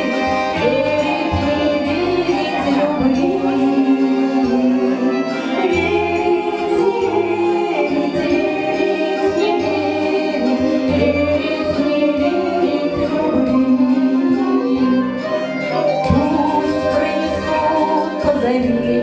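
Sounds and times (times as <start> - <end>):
instrumental accompaniment with bass: 0.0 - 19.0
two women singing a duet: 0.0 - 19.0.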